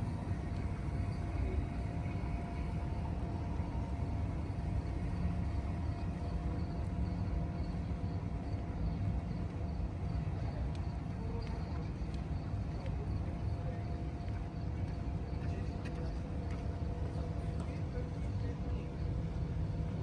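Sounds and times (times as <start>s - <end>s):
faint steady hum tones: 0.0s - 20.0s
low city rumble: 0.0s - 20.0s.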